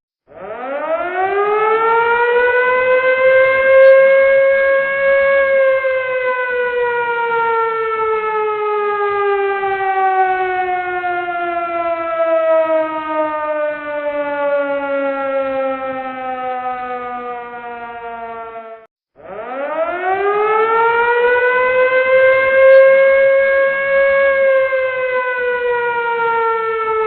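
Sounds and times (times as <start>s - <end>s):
emergency siren wailing: 0.3s - 27.0s.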